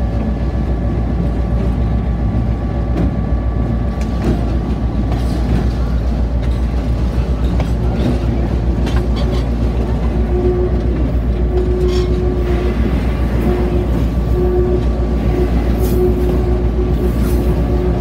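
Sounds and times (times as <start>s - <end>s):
train rumbling on rack track: 0.0s - 18.0s.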